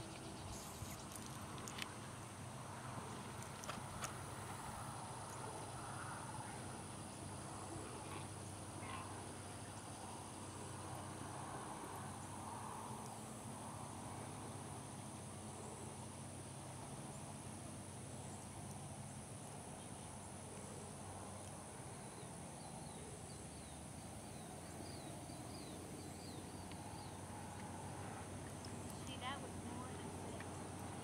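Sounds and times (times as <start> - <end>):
high insect drone: 0.0 - 31.0.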